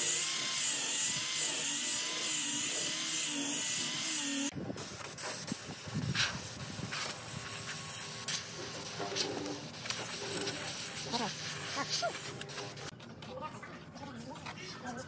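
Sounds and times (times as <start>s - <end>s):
scraper scratching wood: 0.0s - 12.9s.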